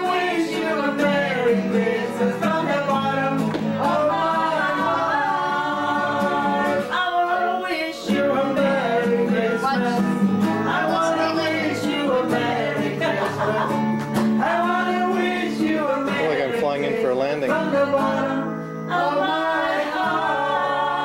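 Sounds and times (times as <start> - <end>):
person singing: 0.0 - 13.8, 14.4 - 21.0
guitar accompaniment: 0.0 - 21.0.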